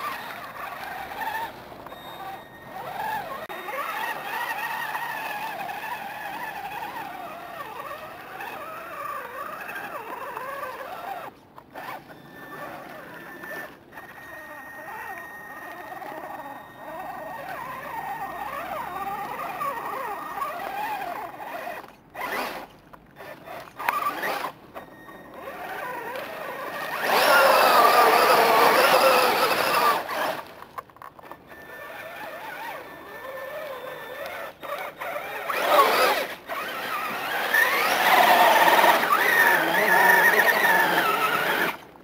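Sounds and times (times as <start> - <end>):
electric motors whining: 0.0 - 42.0.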